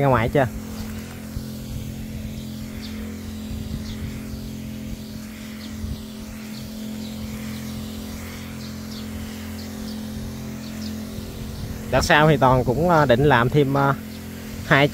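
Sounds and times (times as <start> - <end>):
water sprayer humming: 0.0 - 14.9.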